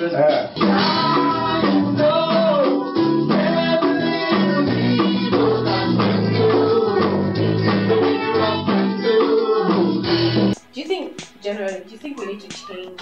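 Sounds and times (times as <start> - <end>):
music with steady beat: 0.1 - 13.0.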